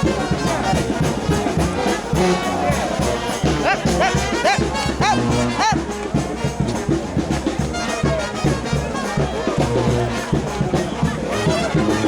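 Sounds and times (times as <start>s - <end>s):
brass band playing: 0.0s - 12.0s.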